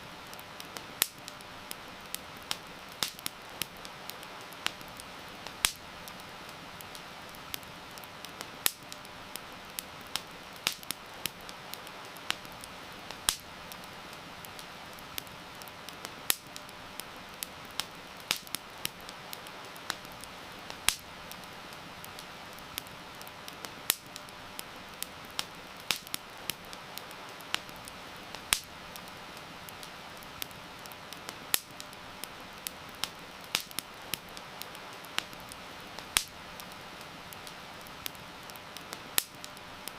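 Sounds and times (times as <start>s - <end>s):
campfire crackling and popping: 0.0s - 39.9s
rain hiss: 0.0s - 39.9s.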